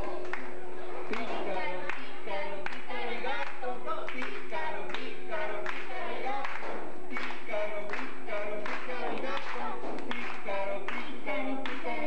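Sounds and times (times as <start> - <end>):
hands clapping: 0.0 - 12.0
people singing a children's song: 0.0 - 12.0.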